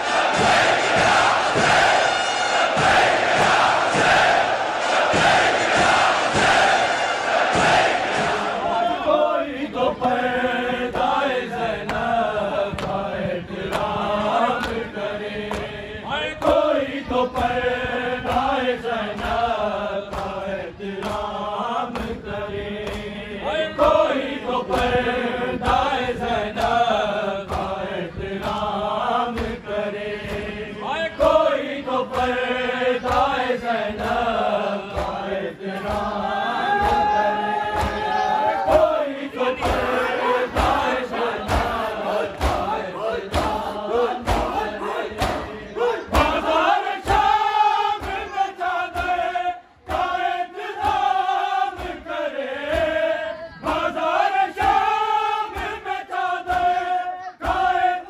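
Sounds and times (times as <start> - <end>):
crowd of men chanting: 0.0 - 58.0
rhythmic chest-beating slaps: 0.0 - 58.0.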